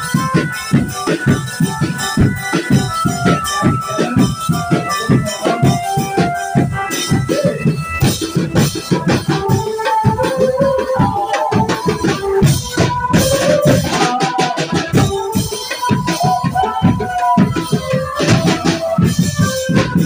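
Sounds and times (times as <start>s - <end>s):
fast dense drumming: 0.0s - 20.0s
melody of held notes: 0.0s - 20.0s.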